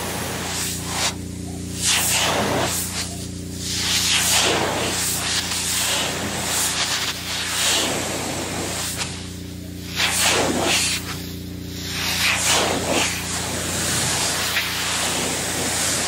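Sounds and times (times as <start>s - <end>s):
steady low hum: 0.0s - 16.0s
water jet hissing on glass: 0.0s - 16.0s.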